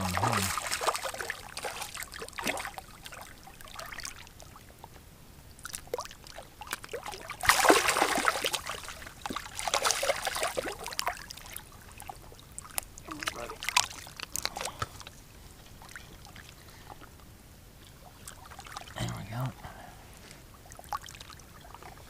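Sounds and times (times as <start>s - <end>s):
water splashing and trickling: 0.0s - 19.7s, 20.5s - 22.0s.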